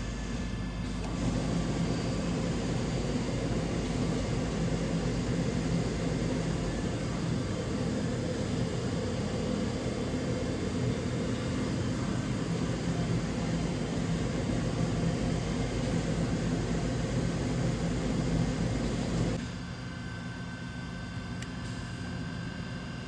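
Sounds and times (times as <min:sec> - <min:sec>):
milling machine drone: 0:00.0 - 0:19.5.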